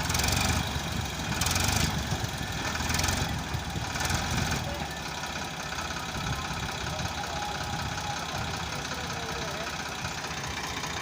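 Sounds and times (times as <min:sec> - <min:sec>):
heavy diesel engine idling: 0:00.0 - 0:11.0.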